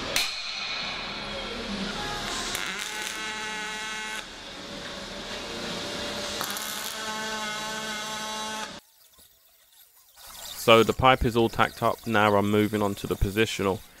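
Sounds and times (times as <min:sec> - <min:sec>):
workshop machine noise: 0:00.0 - 0:14.0.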